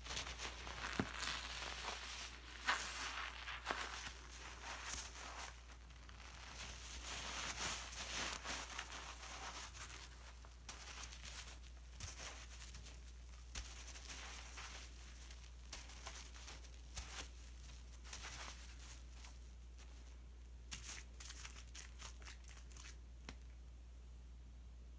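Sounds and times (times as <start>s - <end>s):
sponges squishing in foam: 0.0s - 23.4s.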